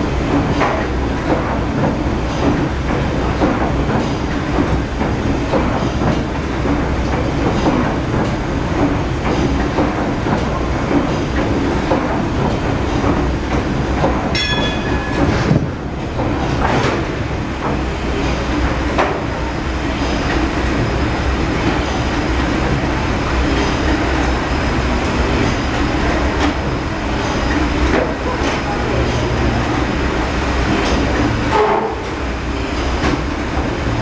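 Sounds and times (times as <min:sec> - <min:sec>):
steam engine clattering: 0:00.0 - 0:34.0.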